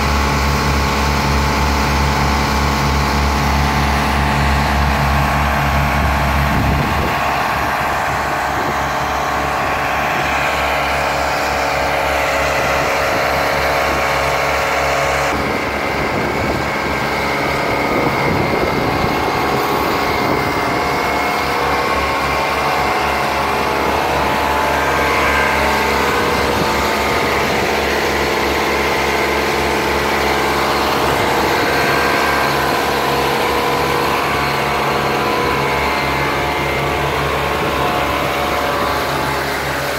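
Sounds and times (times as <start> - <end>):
pneumatic blower drone with hiss: 0.0 - 39.9
truck engines running: 0.0 - 39.9.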